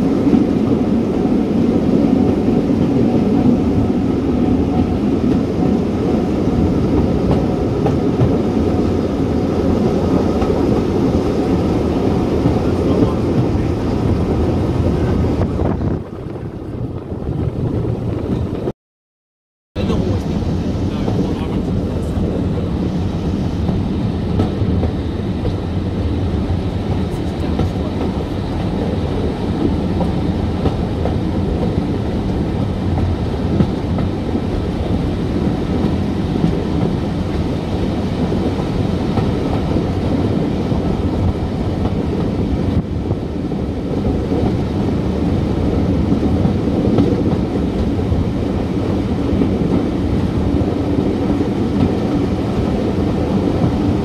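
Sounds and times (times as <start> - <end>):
clickety-clack of rail joints: 0.0 - 18.7, 19.8 - 54.0
train wheels rumbling on rail: 0.0 - 18.7, 19.8 - 54.0.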